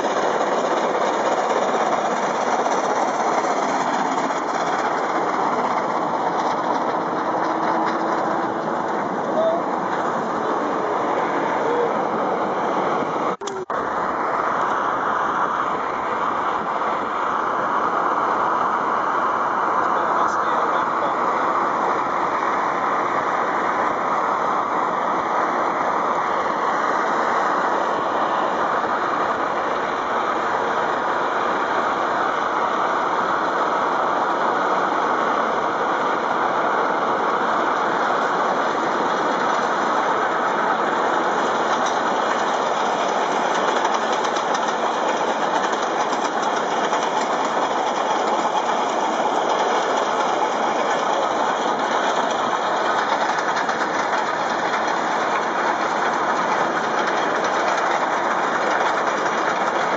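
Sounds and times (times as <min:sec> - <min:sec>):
steam locomotive running: 0:00.0 - 0:59.9.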